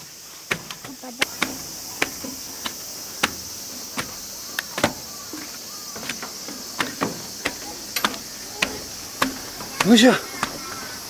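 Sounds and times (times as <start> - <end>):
footsteps on wooden planks: 0.0 - 11.0
insects buzzing: 0.0 - 11.0.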